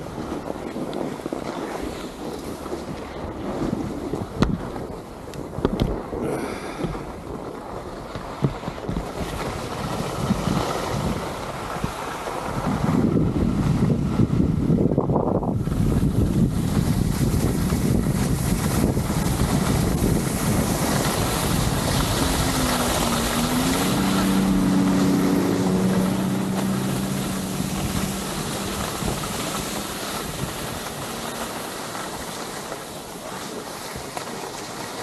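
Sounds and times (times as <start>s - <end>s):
snowmobile engine hum: 0.0s - 5.3s, 5.9s - 35.0s
skis scraping on packed snow: 0.0s - 14.4s, 15.5s - 35.0s
wind on microphone: 0.0s - 35.0s.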